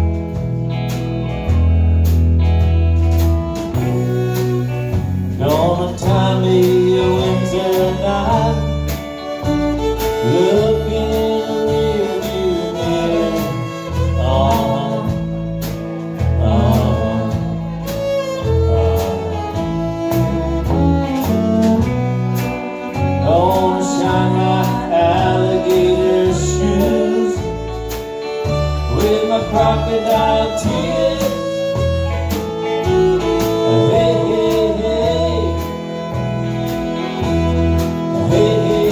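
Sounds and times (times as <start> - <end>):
bass: 0.0 - 38.9
drums: 0.0 - 38.9
electric guitar: 0.0 - 38.9
fiddle: 0.0 - 38.9.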